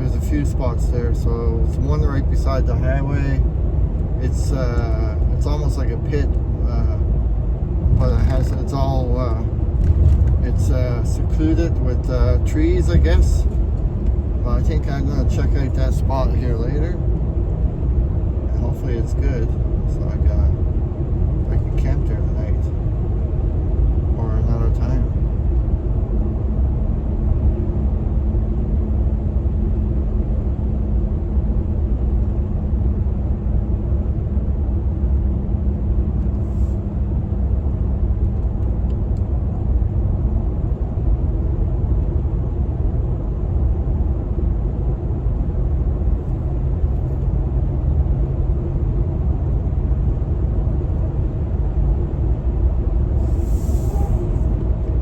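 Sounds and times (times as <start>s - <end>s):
truck engine rumbling: 0.0s - 30.0s, 30.6s - 55.0s
faint steady hum: 0.0s - 55.0s.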